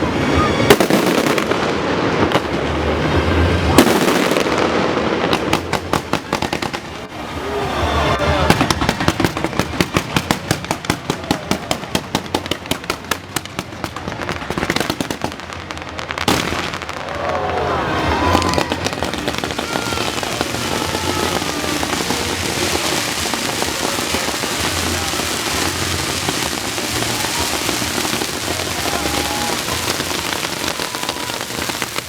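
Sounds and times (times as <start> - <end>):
fireworks booming: 0.0 - 32.0
fireworks crackling pops: 0.4 - 2.8, 3.7 - 7.5, 8.2 - 32.0.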